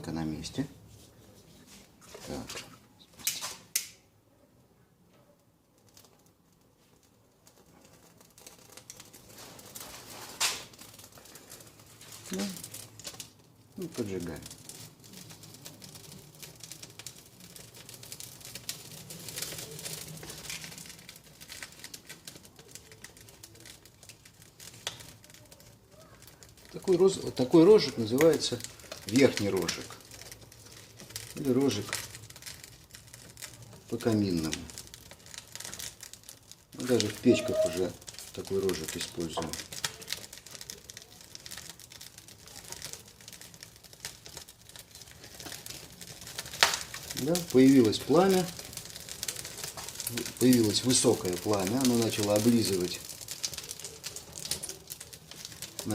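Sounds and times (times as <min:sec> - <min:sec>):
tinder crackling in fire: 0:00.0 - 0:55.9.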